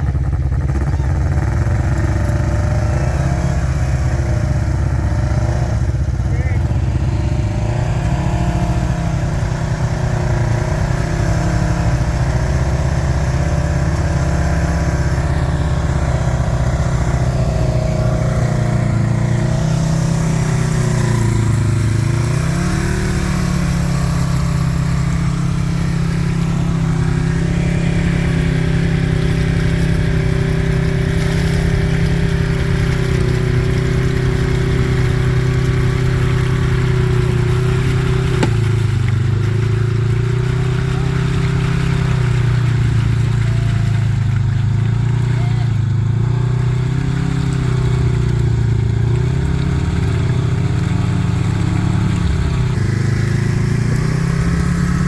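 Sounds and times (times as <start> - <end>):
utv engine running: 0.0 - 55.0.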